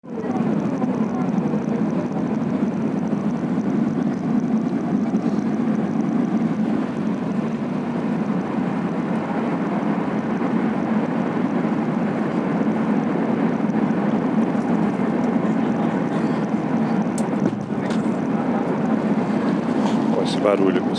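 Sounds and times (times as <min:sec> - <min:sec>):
aircraft cabin engine drone: 0:00.0 - 0:20.9.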